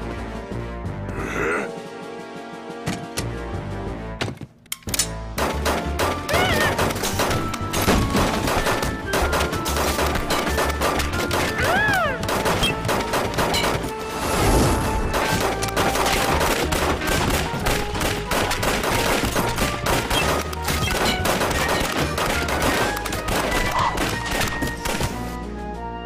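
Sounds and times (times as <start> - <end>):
dramatic action music: 0.0 - 26.0.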